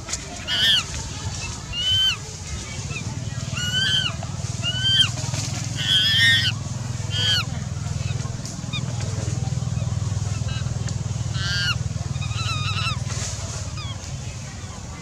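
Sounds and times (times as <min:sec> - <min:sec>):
steady low hum: 0:00.0 - 0:15.0
high-pitched wavering animal calls: 0:00.4 - 0:09.0, 0:09.6 - 0:14.1.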